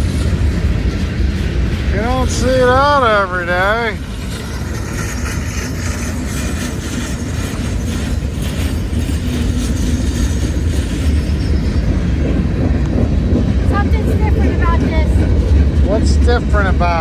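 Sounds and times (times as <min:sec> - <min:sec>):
freight train wheels rumbling: 0:00.0 - 0:17.0
train wheels clacking: 0:00.0 - 0:17.0.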